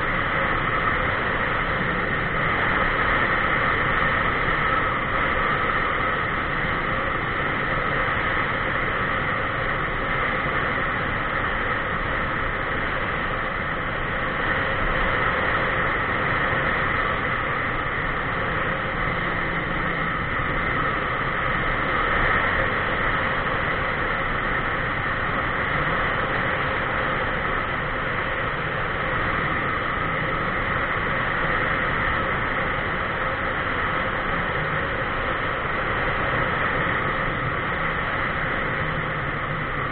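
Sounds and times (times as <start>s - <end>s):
constant hum: 0.0s - 39.9s
wind and road noise: 0.0s - 39.9s.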